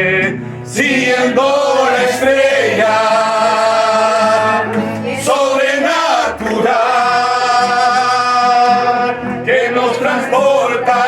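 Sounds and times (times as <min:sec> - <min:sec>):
voices singing a slow hymn: 0:00.0 - 0:11.0.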